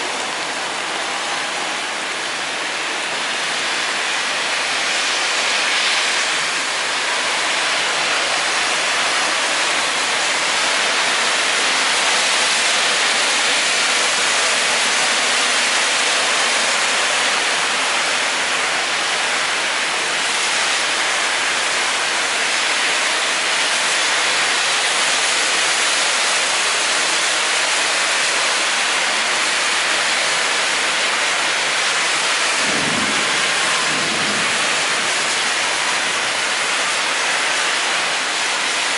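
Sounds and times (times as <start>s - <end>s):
heavy rain hitting pavement: 0.0s - 38.9s.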